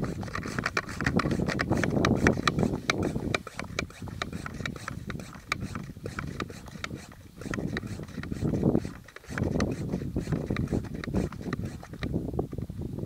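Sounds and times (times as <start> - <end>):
sprayer pump clicking: 0.0 - 12.7.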